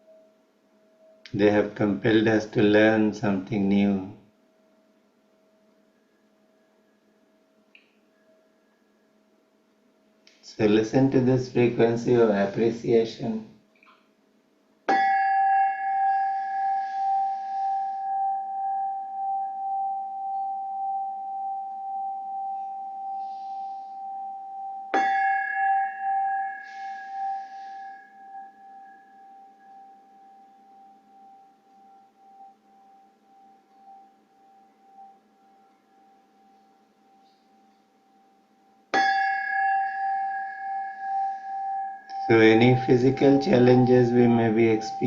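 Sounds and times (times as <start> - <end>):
singing bowl ringing: 0.0 - 3.1, 3.8 - 13.3, 14.8 - 45.0.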